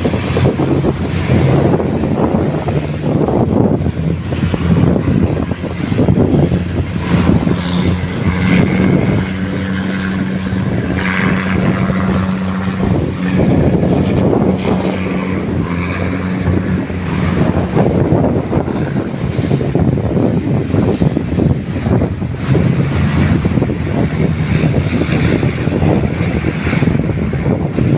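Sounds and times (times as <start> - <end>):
boat engine humming: 0.0 - 27.9
wind buffeting microphone: 0.0 - 27.9.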